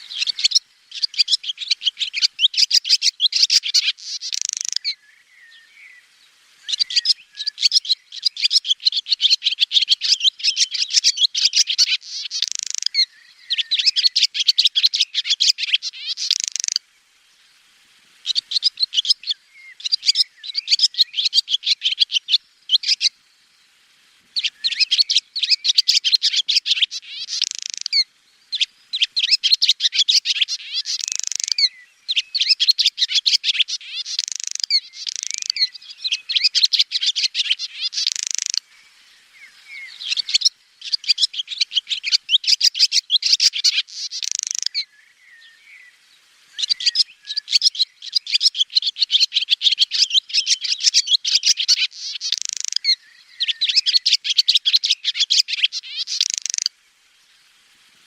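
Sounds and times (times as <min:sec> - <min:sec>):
swallow twittering: 0:00.0 - 0:06.0, 0:06.6 - 0:16.8, 0:18.2 - 0:23.2, 0:24.4 - 0:56.8.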